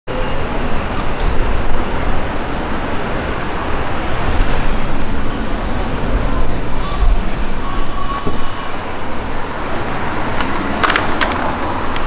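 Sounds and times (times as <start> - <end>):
road vehicles passing: 0.1 - 12.0.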